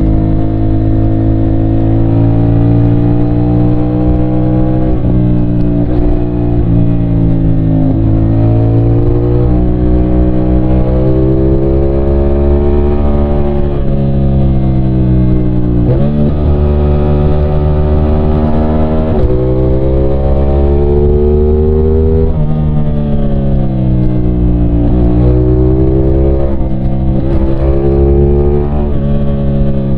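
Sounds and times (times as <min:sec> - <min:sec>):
motorcycle engine revving under load: 0:00.0 - 0:29.9.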